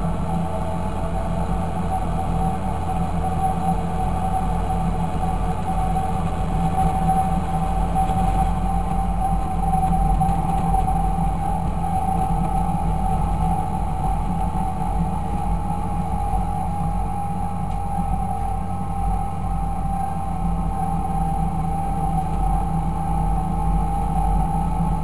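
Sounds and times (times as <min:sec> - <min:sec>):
steady whine: 0:00.0 - 0:25.0
tractor diesel engine running: 0:00.0 - 0:25.0.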